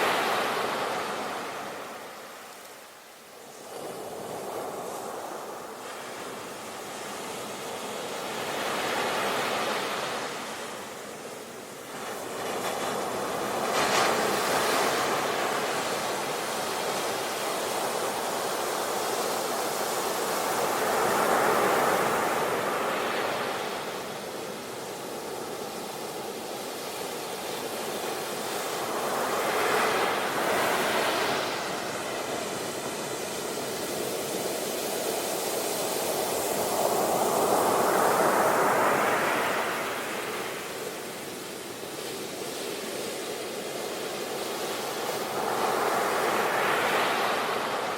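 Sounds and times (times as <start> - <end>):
sea waves breaking on beach: 3.5 - 47.9.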